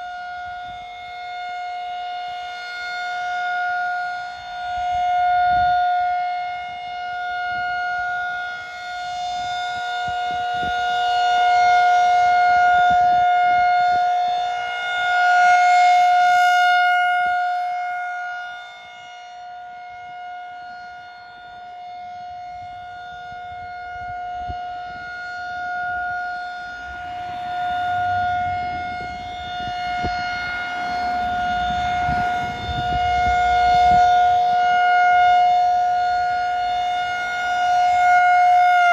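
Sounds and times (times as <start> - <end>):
tornado warning siren: 0.0 - 38.9.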